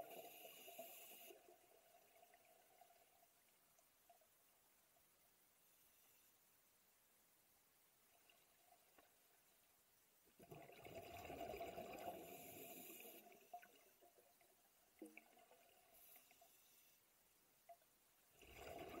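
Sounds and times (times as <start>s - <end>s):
faint ticks and gurgles: 0.0s - 19.0s.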